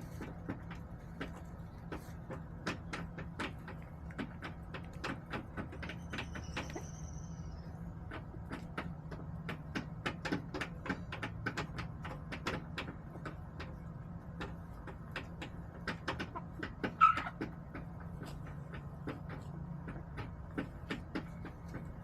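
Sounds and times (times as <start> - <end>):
hens pecking: 0.0 - 22.0.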